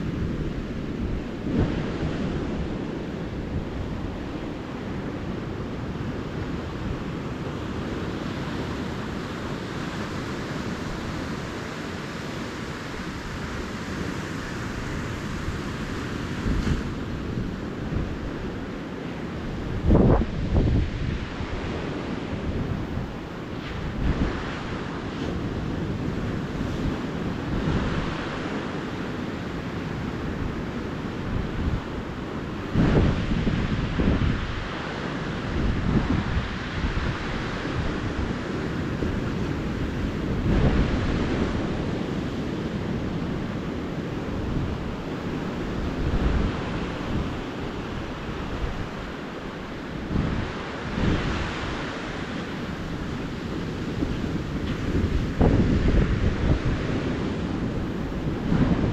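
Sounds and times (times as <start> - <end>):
ocean surf washing onto beach: 0.0 - 58.9
wind on microphone: 0.0 - 58.9.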